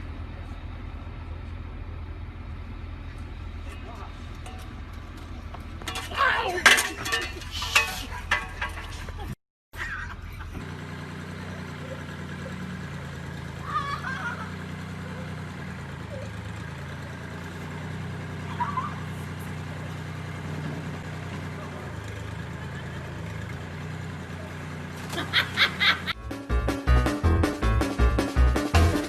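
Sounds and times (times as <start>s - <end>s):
vehicle engine idling: 0.0s - 6.5s, 7.1s - 29.0s.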